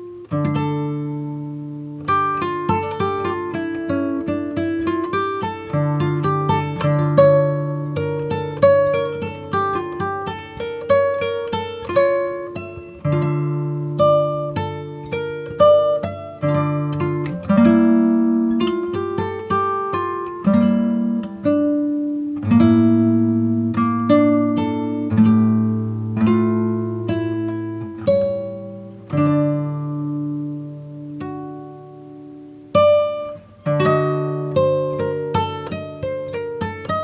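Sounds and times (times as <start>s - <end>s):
plucked acoustic guitar: 0.0s - 37.0s.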